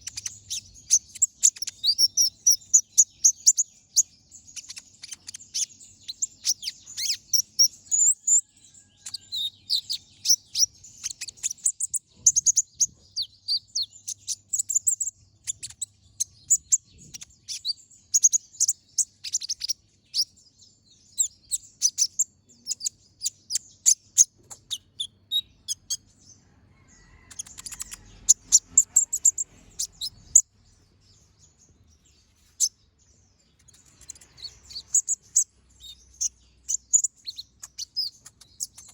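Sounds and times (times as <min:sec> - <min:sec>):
sunbird chirps and trills: 0:00.0 - 0:38.9.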